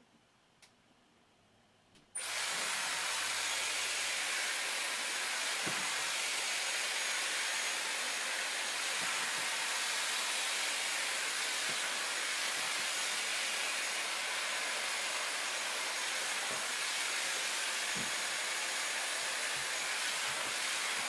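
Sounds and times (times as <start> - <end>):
hair styler blowing air: 2.2 - 21.0
hair styler switching on: 2.2 - 21.0.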